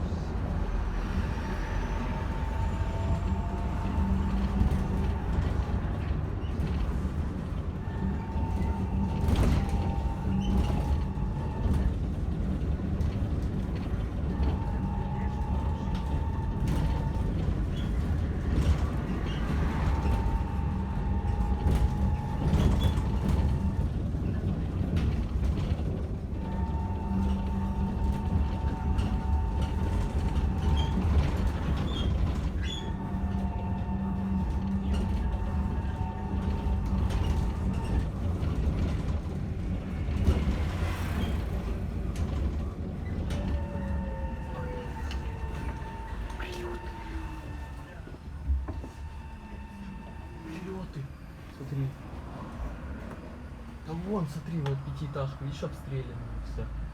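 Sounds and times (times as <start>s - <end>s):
bus ride rumble: 0.0s - 56.9s.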